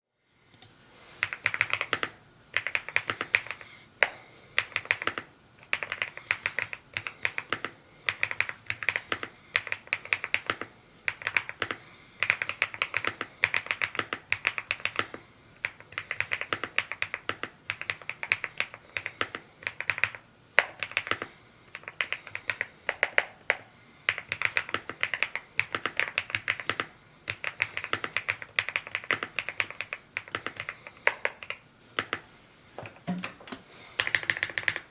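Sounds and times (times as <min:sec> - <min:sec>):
mechanical keyboard typing: 0:00.6 - 0:03.6, 0:04.6 - 0:32.2, 0:34.0 - 0:34.9.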